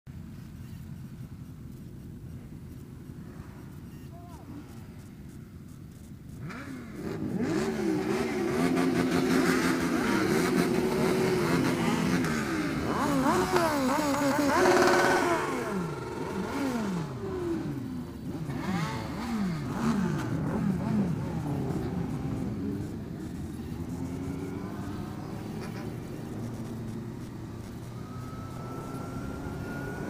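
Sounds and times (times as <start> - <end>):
vehicle engine revving: 2.0 - 30.0.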